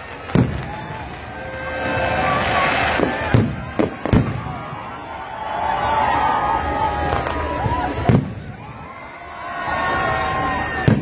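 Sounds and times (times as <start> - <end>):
fireworks bangs: 0.0 - 8.8, 10.5 - 11.0
fireworks crackling: 0.0 - 11.0.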